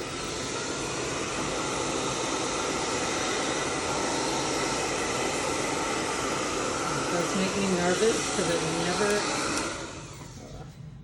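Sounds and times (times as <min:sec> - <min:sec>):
hair dryer blowing air: 0:00.0 - 0:10.6.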